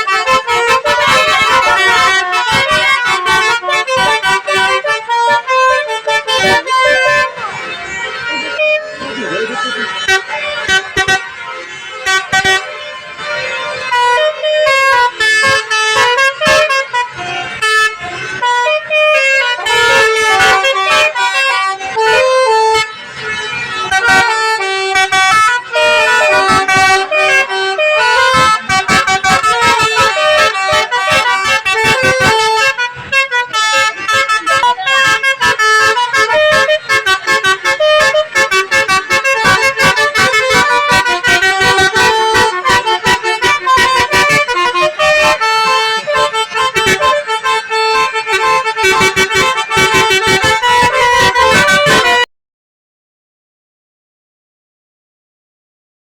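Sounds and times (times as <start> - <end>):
musical air horn melody: 0.0 - 52.3.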